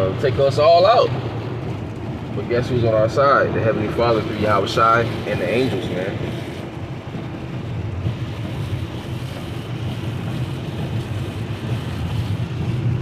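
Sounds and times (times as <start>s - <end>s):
fluctuating hiss: 0.0s - 13.0s
low rumbling background noise: 0.0s - 13.0s.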